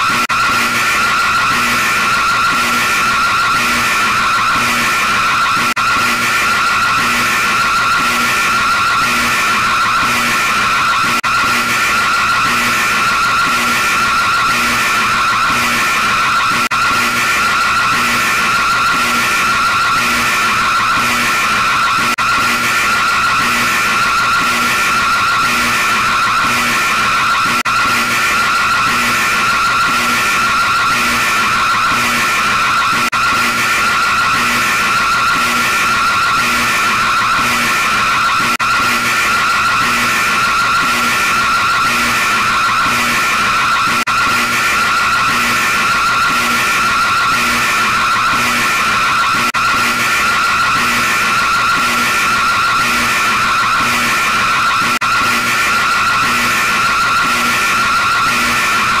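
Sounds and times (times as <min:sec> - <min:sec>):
pulsing emergency alert alarm: 0:00.0 - 0:59.0.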